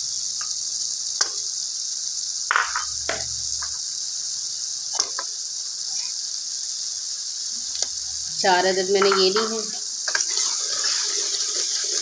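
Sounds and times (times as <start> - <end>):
lentils sizzling in a pot: 0.0 - 12.0.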